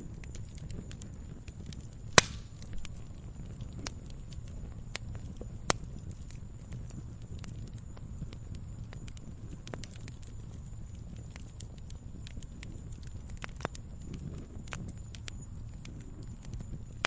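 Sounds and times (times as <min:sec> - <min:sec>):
fire crackles: 0:00.0 - 0:17.0
fire rumbling: 0:00.0 - 0:17.0
sharp pops from burning logs: 0:00.0 - 0:17.0.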